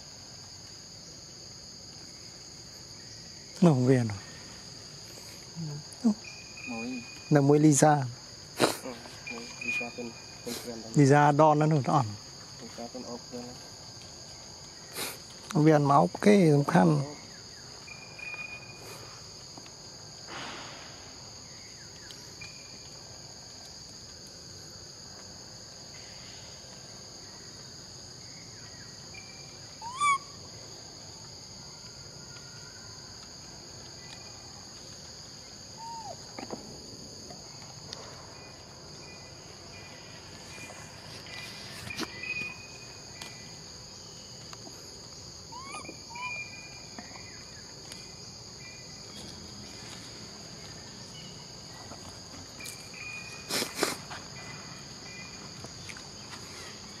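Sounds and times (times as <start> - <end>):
insect chorus: 0.0 - 57.0.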